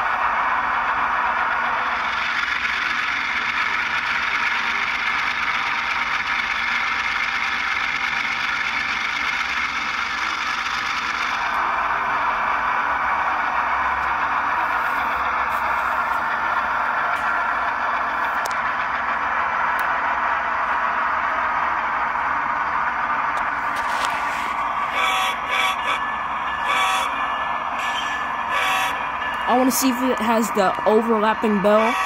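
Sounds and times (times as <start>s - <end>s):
model train diesel engine sound: 0.0s - 32.0s.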